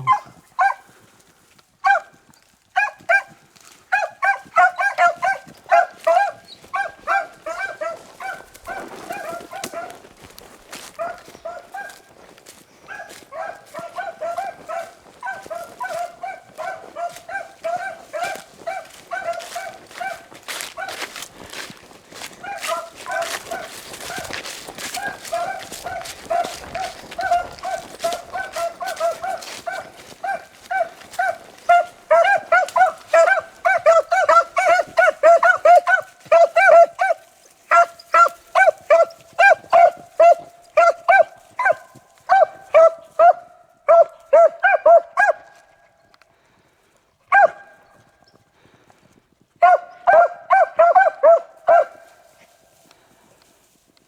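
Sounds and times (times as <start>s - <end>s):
dogs baying: 0.0s - 1.0s, 1.8s - 45.8s, 47.3s - 48.1s, 49.6s - 52.6s.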